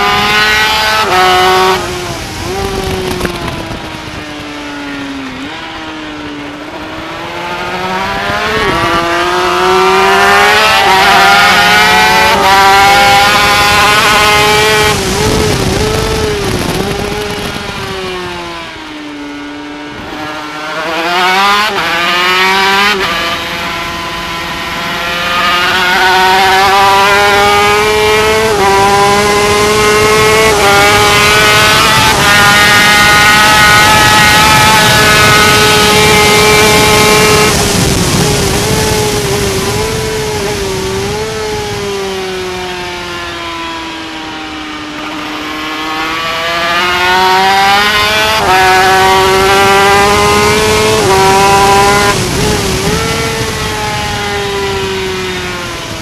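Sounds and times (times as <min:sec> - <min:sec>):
racing motorcycle engine revving: 0:00.0 - 0:56.0.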